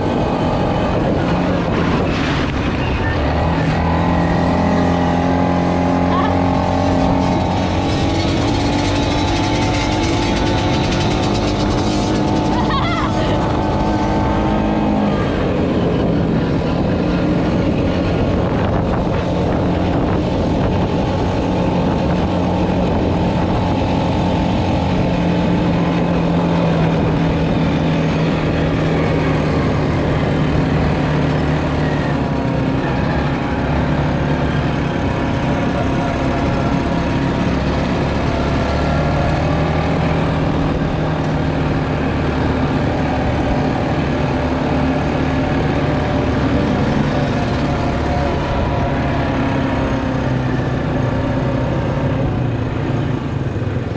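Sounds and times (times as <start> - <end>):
quad bike engine running: 0.0 - 53.9
wind on microphone: 0.0 - 53.9.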